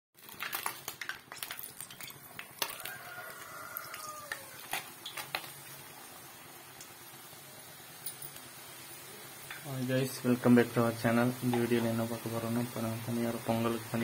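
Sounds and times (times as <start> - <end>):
faint frying sizzle: 0.2 - 14.0.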